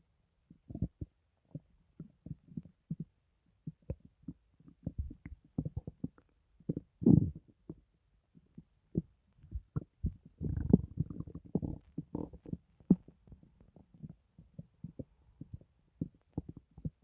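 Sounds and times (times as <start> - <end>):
stomach gurgling and rumbling: 0.4 - 17.0.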